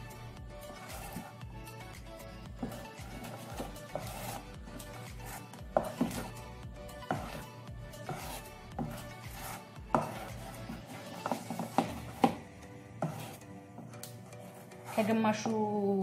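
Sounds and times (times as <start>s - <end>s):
utensil stirring batter in bowl: 0.0s - 15.6s
soft background music: 0.0s - 16.0s.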